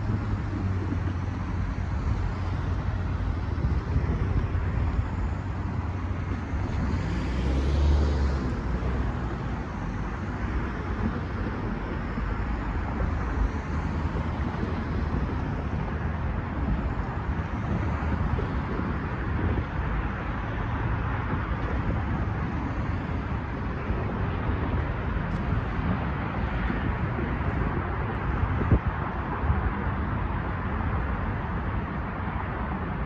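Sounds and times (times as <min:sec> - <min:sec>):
vehicles passing over crossing: 0:00.0 - 0:33.0.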